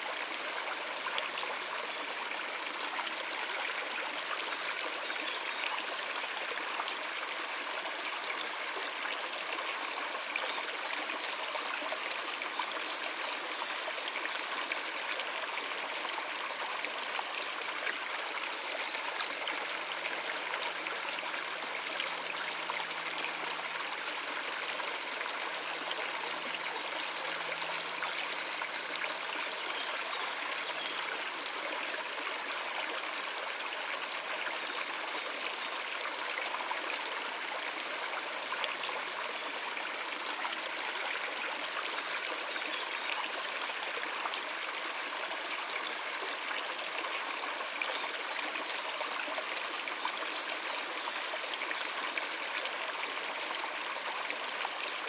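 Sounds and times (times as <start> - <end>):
stream water over rocks: 0.0 - 55.0.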